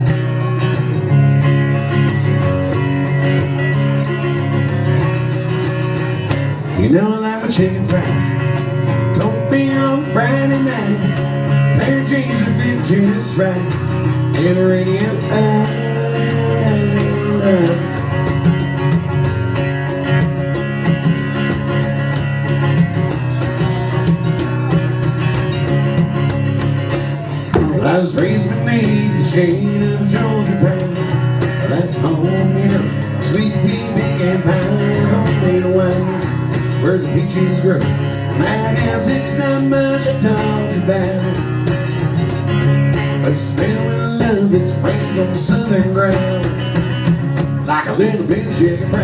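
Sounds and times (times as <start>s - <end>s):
percussion beat: 0.0s - 49.0s
strummed guitars: 0.0s - 49.0s.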